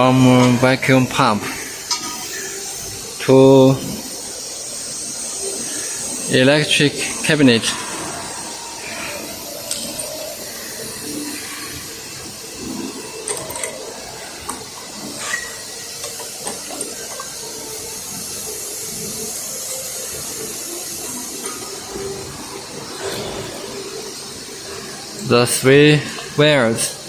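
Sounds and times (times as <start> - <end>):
steady hissing noise: 0.0 - 27.0.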